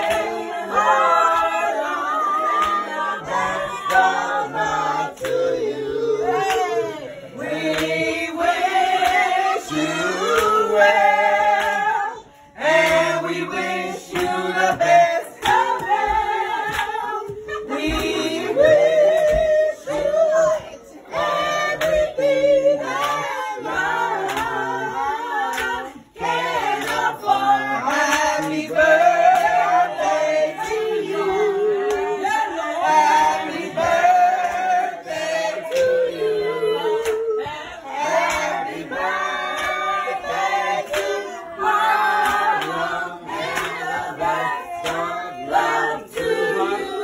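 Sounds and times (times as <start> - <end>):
children and adults singing: 0.0 - 47.0.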